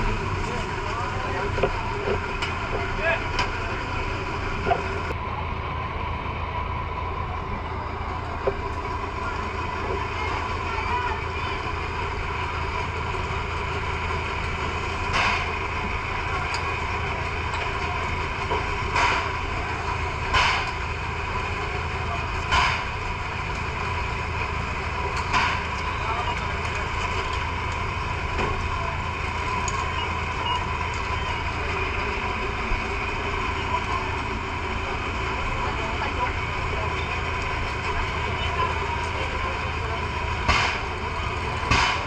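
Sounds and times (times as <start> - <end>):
fire engine running: 0.0 - 42.0.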